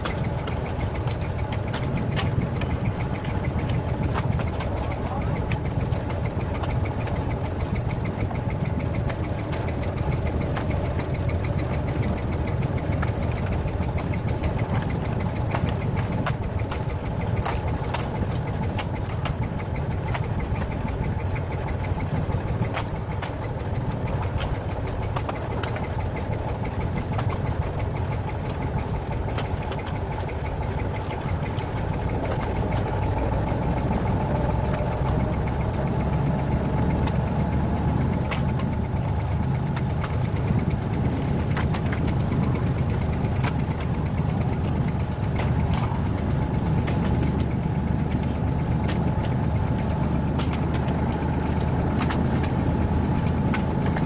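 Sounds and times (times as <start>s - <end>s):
diesel locomotive engine drone: 0.0s - 54.0s
sharp clicks and rattles: 0.0s - 54.0s.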